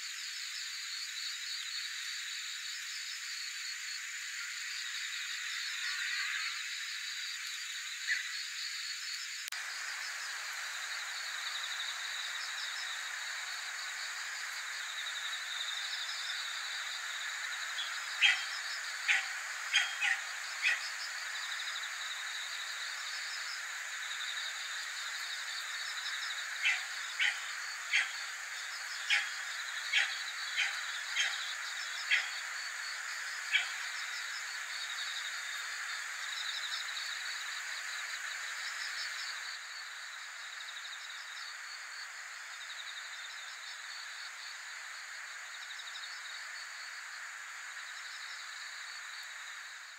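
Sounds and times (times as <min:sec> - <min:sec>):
insects chirping in pulsing trains: 0:00.0 - 0:49.9.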